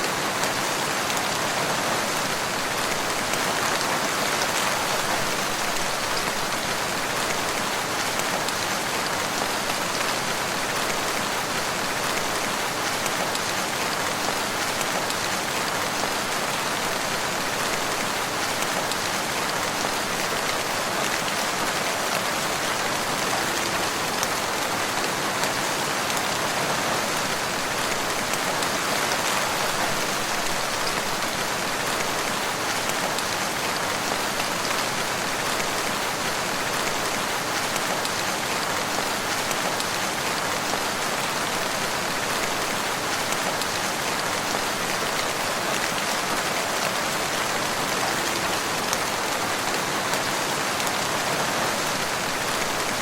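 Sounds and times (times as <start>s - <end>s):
steady rain in forest: 0.0s - 53.0s.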